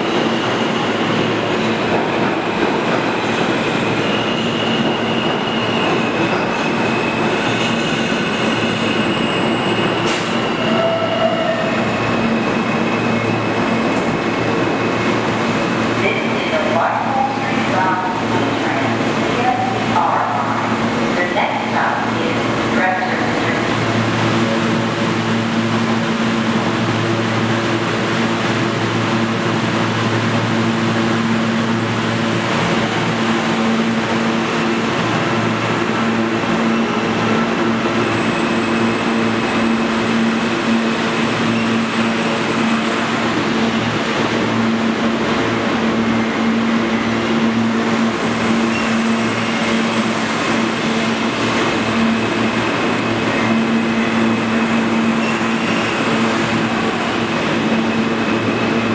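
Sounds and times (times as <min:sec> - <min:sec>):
subway train equipment humming: 0:00.0 - 0:58.9
subway train pulling out: 0:00.0 - 0:58.9.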